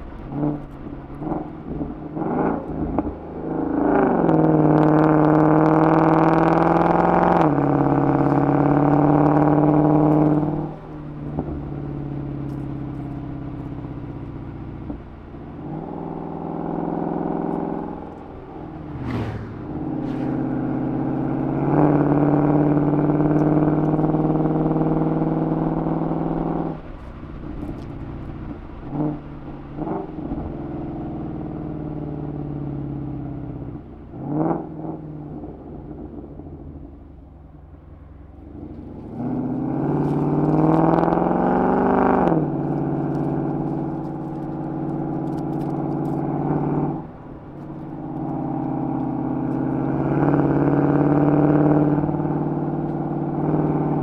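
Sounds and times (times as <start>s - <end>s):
car engine revving and accelerating: 0.0s - 37.2s, 38.1s - 54.0s
car exhaust: 0.0s - 54.0s.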